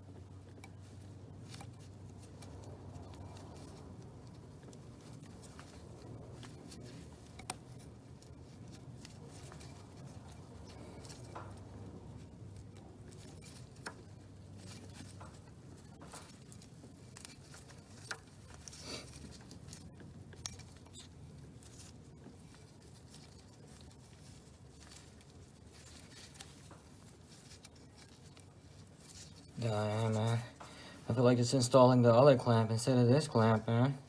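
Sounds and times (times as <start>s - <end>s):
clicks scrapes and rustles of hands: 0.0s - 31.6s
low steady hum: 0.0s - 34.0s.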